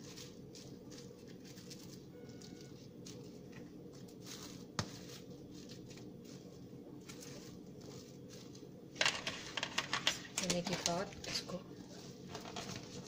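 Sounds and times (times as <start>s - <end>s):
plastic cling wrap crinkling: 0.0s - 13.0s
steady low hum: 0.0s - 13.0s.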